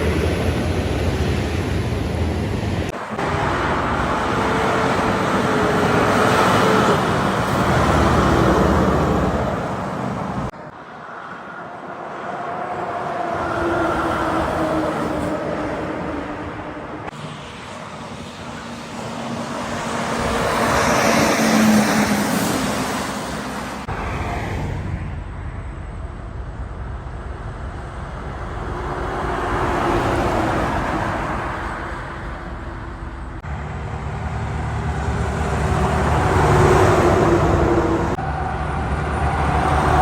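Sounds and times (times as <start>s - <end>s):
heavy trucks passing: 0.0s - 40.0s.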